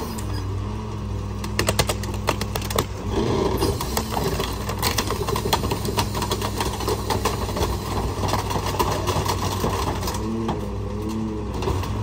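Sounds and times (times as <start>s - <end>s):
garbage truck engine hum: 0.0s - 12.0s
compactor clanks and rattles: 1.4s - 12.0s.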